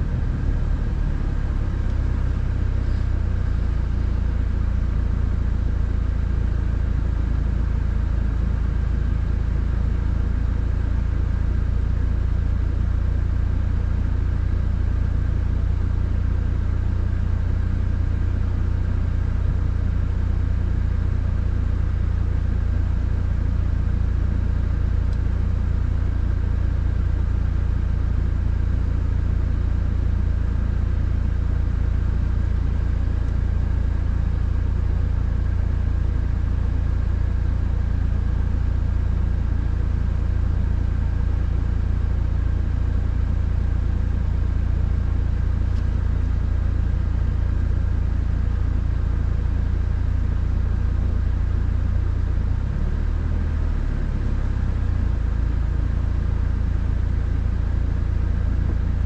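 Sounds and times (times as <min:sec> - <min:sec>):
car cabin engine and road rumble: 0:00.0 - 0:59.0.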